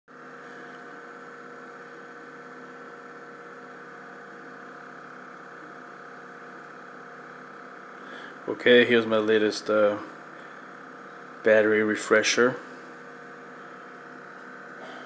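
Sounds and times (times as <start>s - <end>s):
electrical hum: 0.1s - 15.0s.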